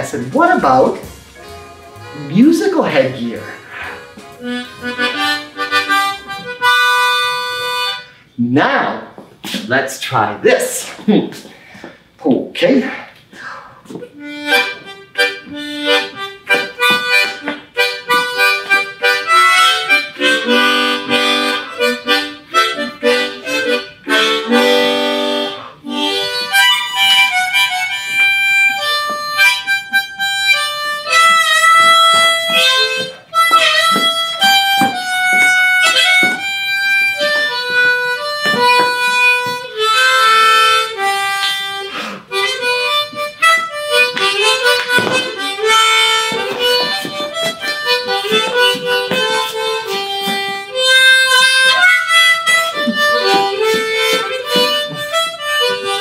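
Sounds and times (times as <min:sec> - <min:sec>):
harmonica tune: 0:00.0 - 0:08.4, 0:13.3 - 0:56.0.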